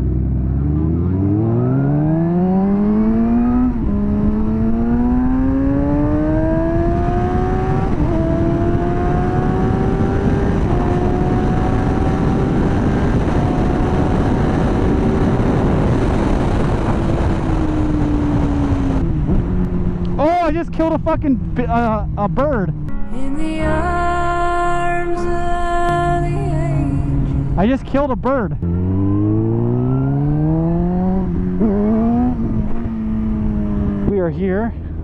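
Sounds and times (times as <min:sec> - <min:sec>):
wind noise on microphone: 0:00.0 - 0:22.9, 0:25.3 - 0:35.0
motorcycle engine accelerating: 0:00.0 - 0:23.0, 0:23.6 - 0:35.0.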